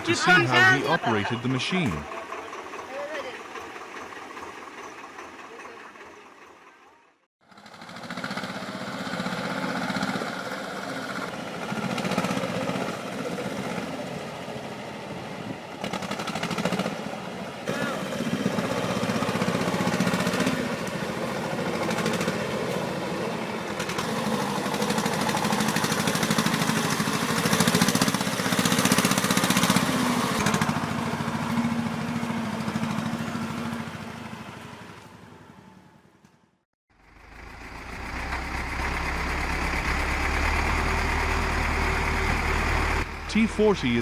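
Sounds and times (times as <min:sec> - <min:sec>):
tractor diesel engine clattering: 0:00.0 - 0:35.2, 0:37.0 - 0:44.0
engine droning: 0:00.0 - 0:44.0.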